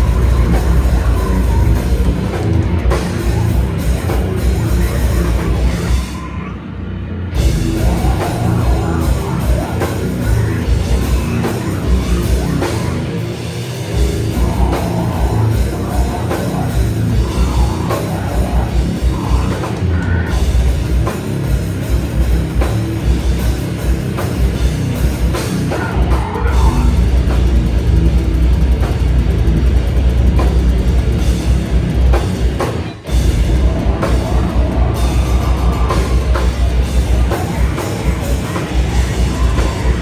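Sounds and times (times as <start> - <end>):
pounding drum kit: 0.0 - 6.4, 7.3 - 40.0
distorted guitars and bass: 0.0 - 40.0.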